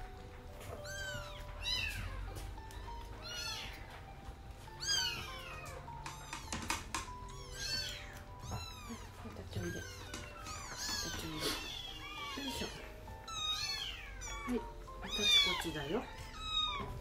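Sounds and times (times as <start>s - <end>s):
background music: 0.0s - 17.0s
kittens mewing: 0.7s - 4.0s, 4.8s - 17.0s.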